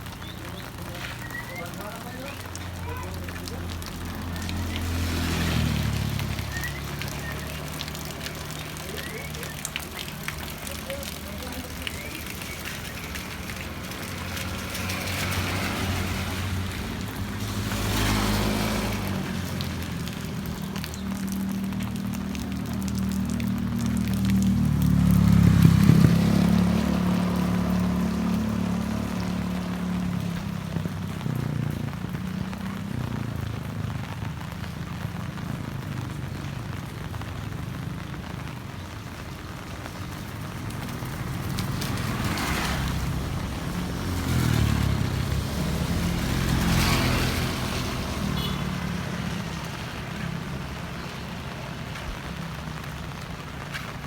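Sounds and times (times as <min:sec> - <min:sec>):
heavy rain falling: 0:00.0 - 0:54.0
vehicle engine hum: 0:00.0 - 0:54.0.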